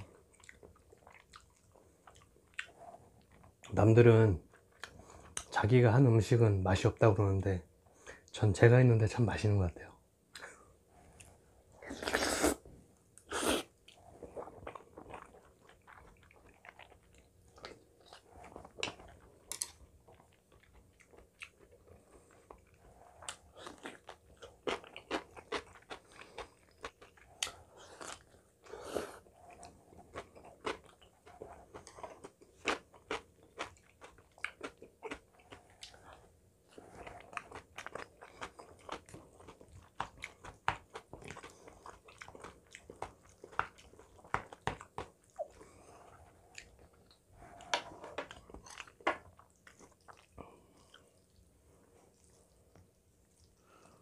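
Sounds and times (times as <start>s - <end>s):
close-miked chewing: 0.0s - 5.6s, 13.2s - 54.0s.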